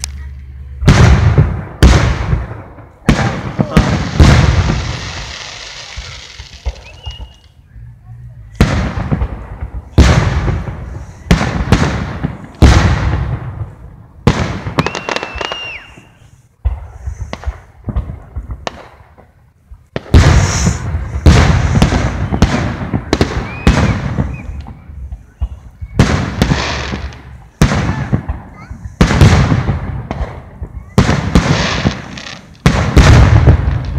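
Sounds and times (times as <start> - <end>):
firework shells bursting in booms: 0.8 - 7.4, 8.6 - 33.9.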